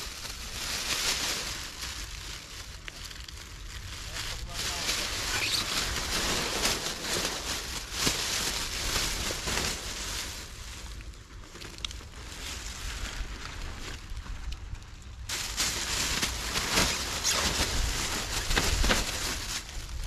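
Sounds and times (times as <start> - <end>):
cabbage leaves rustling: 0.0 - 20.0.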